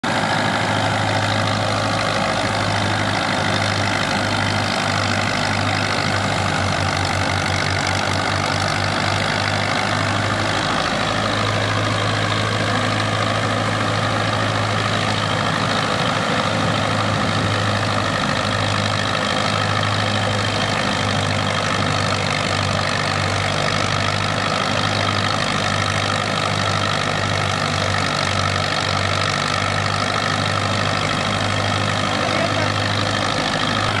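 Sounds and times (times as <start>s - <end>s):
tractor engine and thresher drone: 0.0s - 34.0s.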